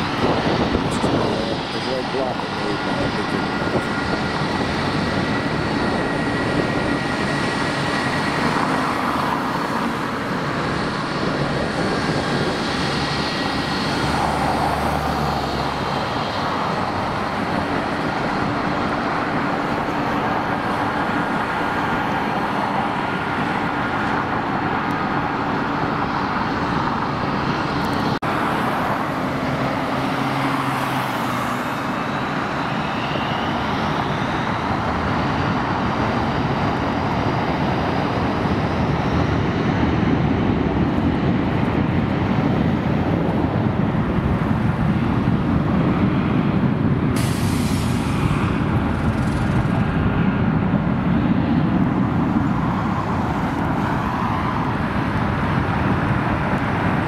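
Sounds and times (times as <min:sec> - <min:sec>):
jet airliner engine: 0:00.0 - 0:57.0
passing cars: 0:00.0 - 0:57.0.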